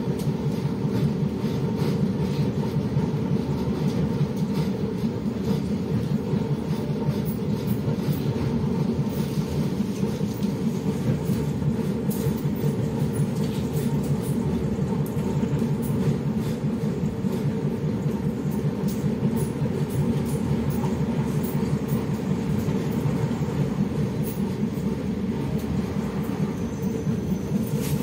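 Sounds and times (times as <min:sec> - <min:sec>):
bus engine low rumble: 0:00.0 - 0:28.0.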